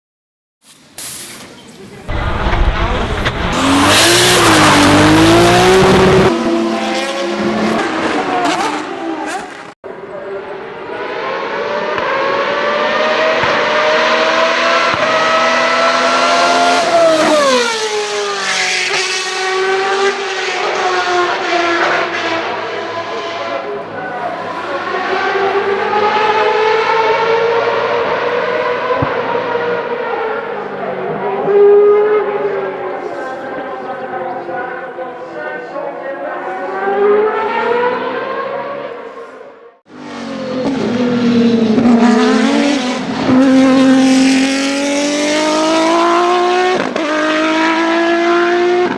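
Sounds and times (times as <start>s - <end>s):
race car engine accelerating: 2.1s - 34.6s, 35.2s - 48.9s.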